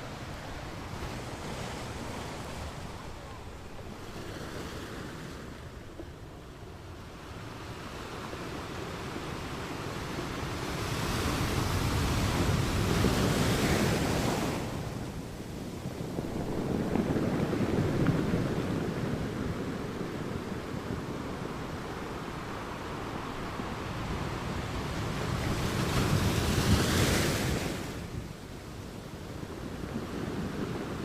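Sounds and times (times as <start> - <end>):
ocean waves washing onto beach: 0.0 - 31.0.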